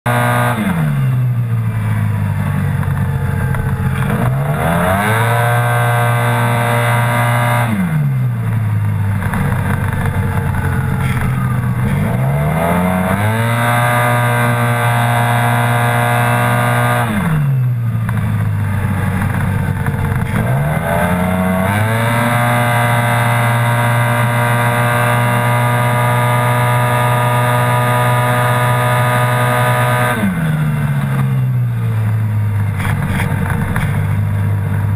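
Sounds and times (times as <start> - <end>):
scooter engine revving: 0.1 - 34.9.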